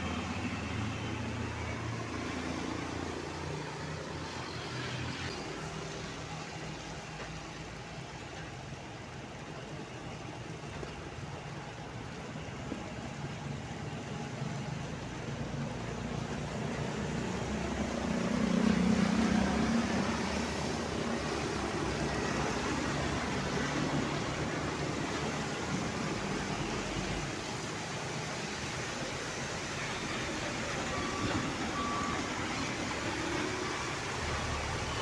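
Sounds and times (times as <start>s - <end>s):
heavy vehicle engine drone: 0.0s - 35.0s
road traffic: 0.0s - 35.0s.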